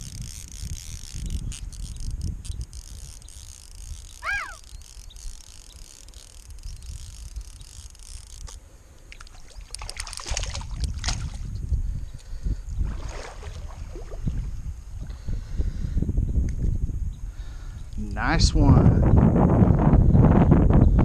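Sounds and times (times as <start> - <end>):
wind rumble on microphone: 0.0 - 8.6, 9.3 - 21.0.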